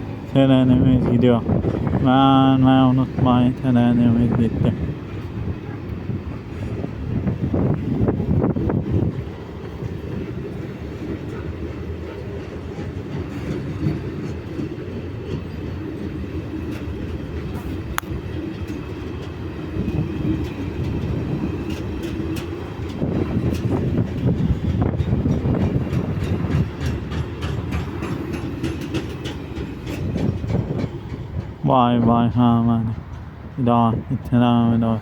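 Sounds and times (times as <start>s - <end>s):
freight train rumbling: 0.0s - 35.0s
train wheels clattering: 4.5s - 33.7s.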